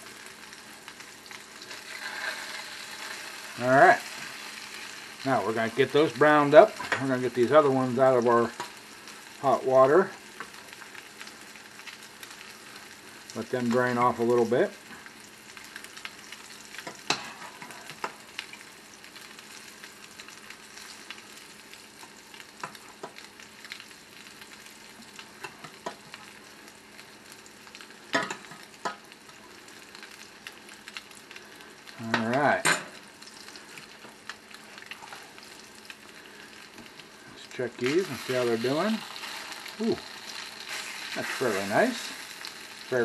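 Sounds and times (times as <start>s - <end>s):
food sizzling in butter: 0.0s - 43.0s.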